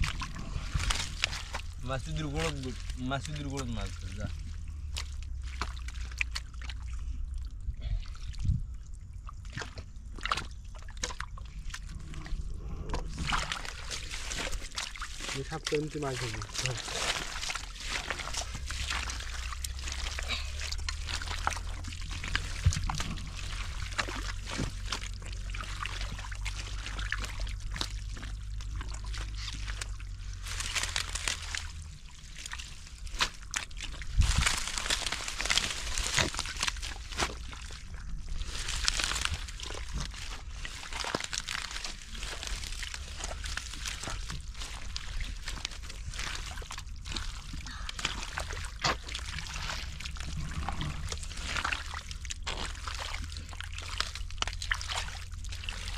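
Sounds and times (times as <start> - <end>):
low steady hum: 0.0 - 55.9
water sloshing and splashing: 0.0 - 55.9.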